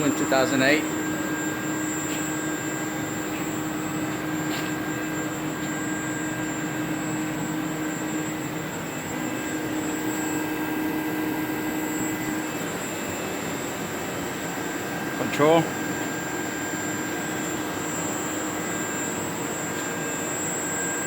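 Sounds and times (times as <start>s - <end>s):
thin high whine: 0.0s - 21.0s.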